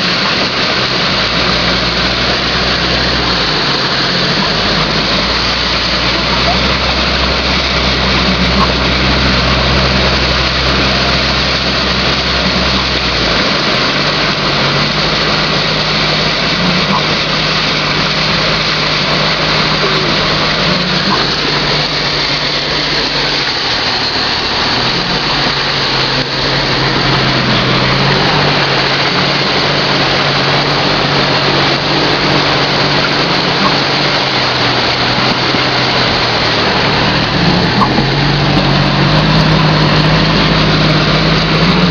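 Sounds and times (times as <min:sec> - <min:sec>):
car engine running: 0:00.0 - 0:41.9
tyres hissing on wet road: 0:00.0 - 0:41.9.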